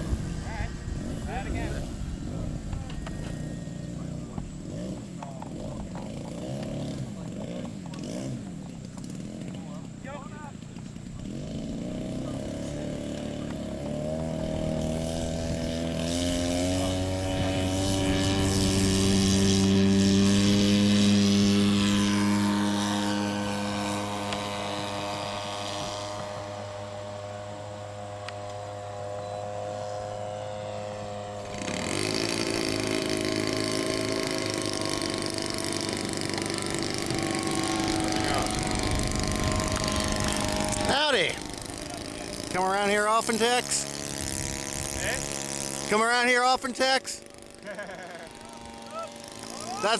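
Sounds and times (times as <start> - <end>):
model airplane engine: 0.0 - 49.9
nearer engine: 0.0 - 49.9.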